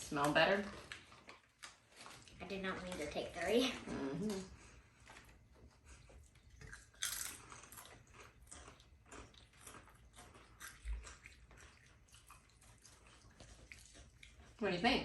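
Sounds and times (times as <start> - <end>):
potato chips being chewed: 0.0 - 14.6.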